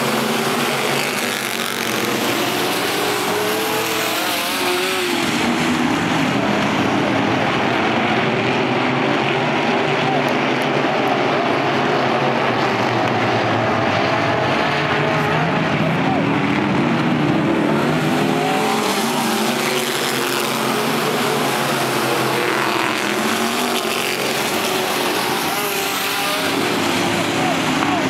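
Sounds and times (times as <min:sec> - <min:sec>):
stock car engines racing: 0:00.0 - 0:28.0.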